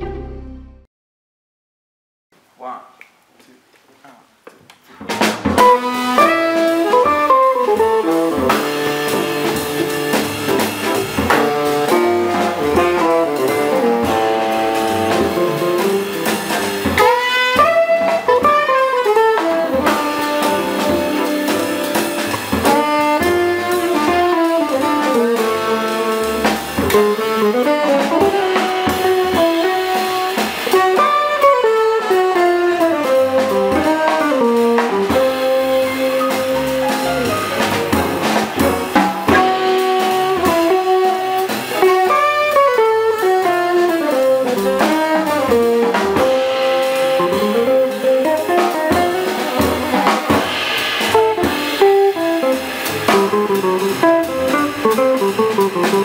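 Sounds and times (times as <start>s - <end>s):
jazz band playing: 0.0s - 0.7s, 5.0s - 56.0s
saxophone melody: 5.6s - 56.0s.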